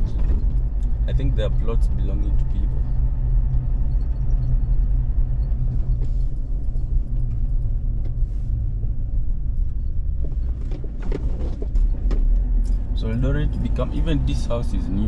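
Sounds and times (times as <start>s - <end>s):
car driving interior rumble: 0.0s - 15.0s.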